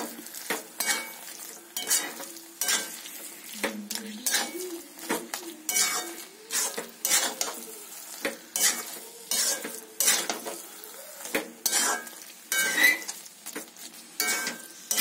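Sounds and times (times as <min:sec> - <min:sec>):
low sizzle: 0:00.0 - 0:15.0
metal spatula scraping pan: 0:00.0 - 0:15.0.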